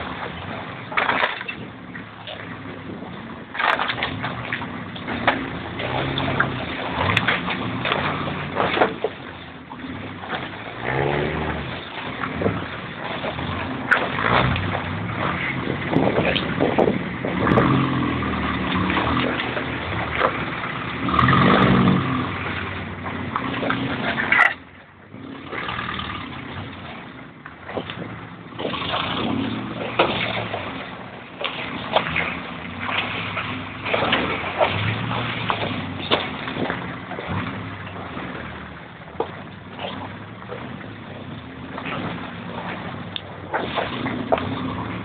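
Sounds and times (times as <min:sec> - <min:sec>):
engine running at low revs: 0:00.0 - 0:45.0
vehicle rattling and knocking: 0:00.0 - 0:45.0.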